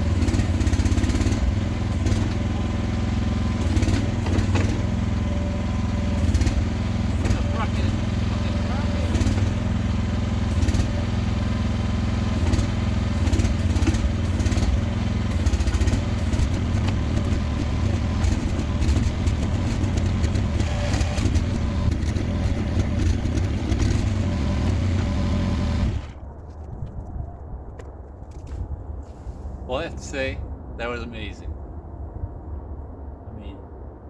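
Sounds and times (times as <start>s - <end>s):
excavator engine running: 0.0s - 28.6s.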